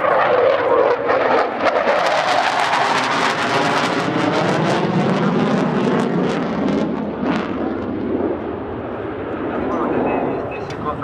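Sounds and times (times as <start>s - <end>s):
jet fighter flying past: 0.0s - 11.0s.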